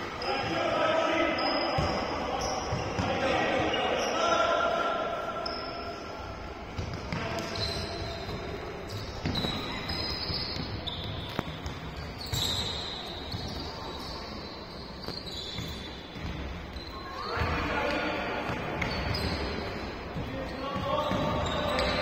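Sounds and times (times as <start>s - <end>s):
sneakers squeaking on court: 0.0s - 4.2s, 5.4s - 22.0s
murmur in hall: 0.0s - 22.0s.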